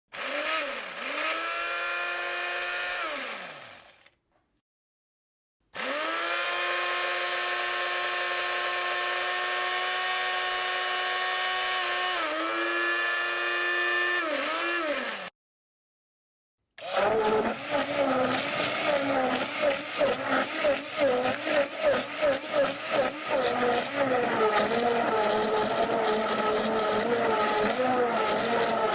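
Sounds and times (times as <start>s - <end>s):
blender motor whirring: 0.1s - 4.1s, 5.8s - 15.3s, 16.8s - 28.9s.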